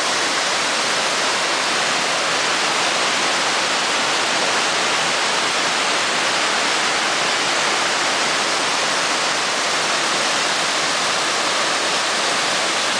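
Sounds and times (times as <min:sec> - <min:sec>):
water rushing over a dam: 0:00.0 - 0:12.9.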